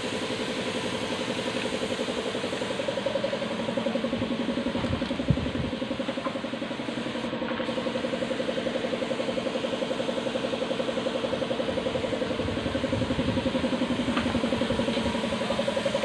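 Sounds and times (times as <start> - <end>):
engine running with fast pulse: 0.0 - 16.0.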